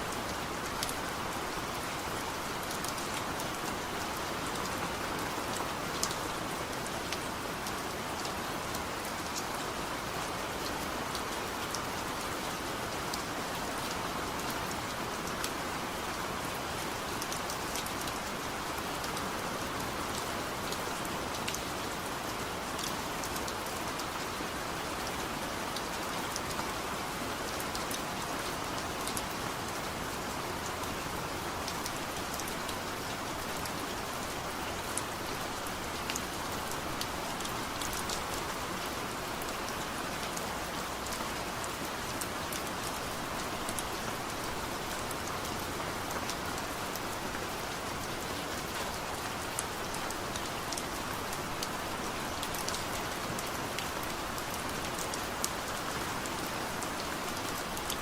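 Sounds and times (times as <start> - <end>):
heavy rain falling: 0.0 - 58.0
rain drops splatting: 0.1 - 58.0.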